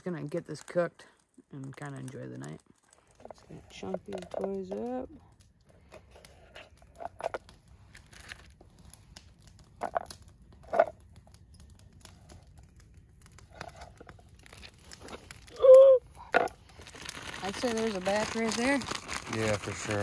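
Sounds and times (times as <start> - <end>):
plastic crinkling: 1.6 - 20.0.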